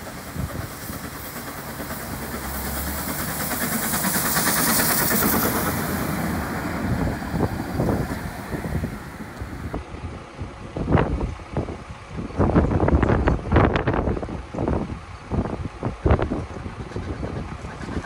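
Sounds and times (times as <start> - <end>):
train passing with hissing rush: 0.0 - 18.0.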